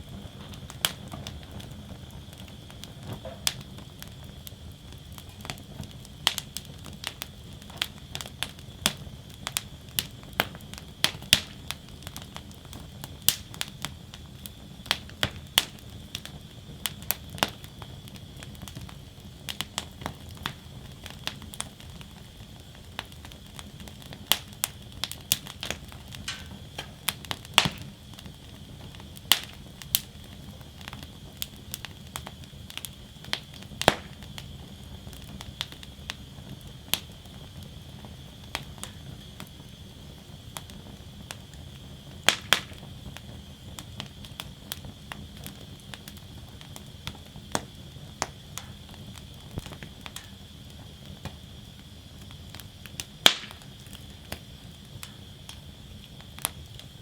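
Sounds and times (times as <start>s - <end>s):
low rush of fire: 0.0s - 57.0s
wood fire crackling and popping: 0.0s - 57.0s.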